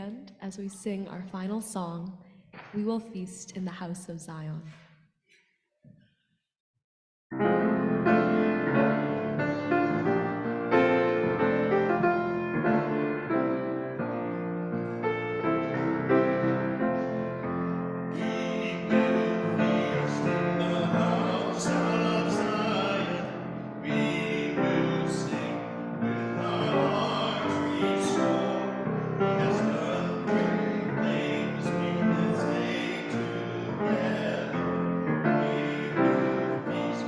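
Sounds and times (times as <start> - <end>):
piano-led church hymn: 7.3 - 37.0.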